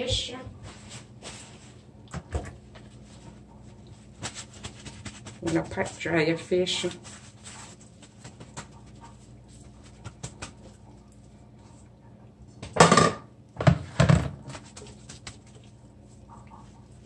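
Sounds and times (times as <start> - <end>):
paper towel rustling: 0.0 - 11.8, 13.9 - 17.0.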